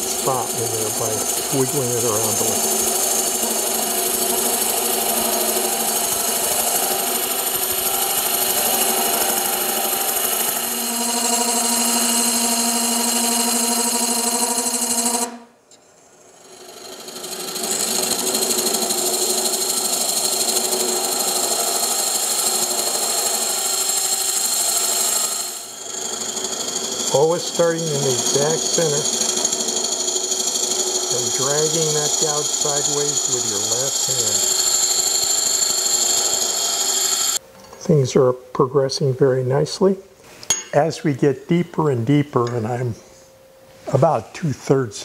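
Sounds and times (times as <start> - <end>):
gouge cutting wood on lathe: 0.0 - 15.4, 16.3 - 37.4.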